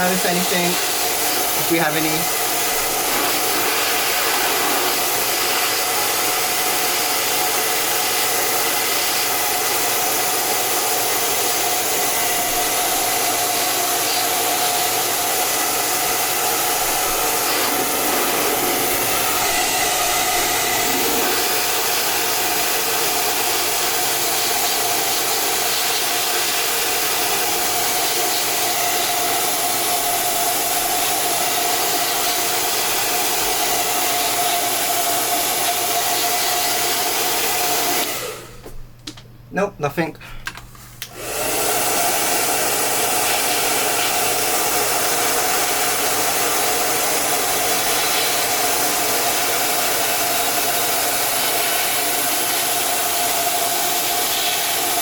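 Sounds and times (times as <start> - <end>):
hot-air tool blowing: 0.0 - 38.6, 41.0 - 55.0.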